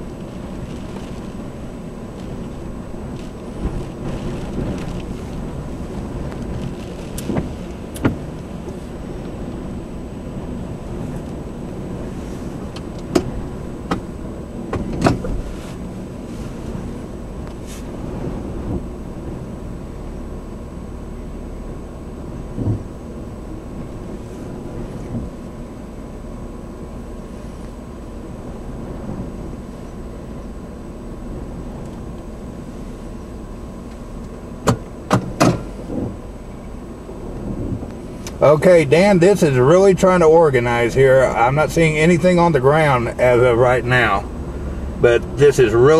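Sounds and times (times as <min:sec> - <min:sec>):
car cabin rumble: 0:00.0 - 0:45.9.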